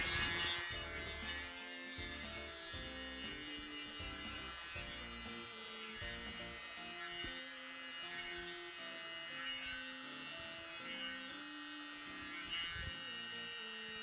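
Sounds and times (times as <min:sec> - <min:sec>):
electric air blower whining: 0:00.0 - 0:14.0
soft background music: 0:00.0 - 0:14.0.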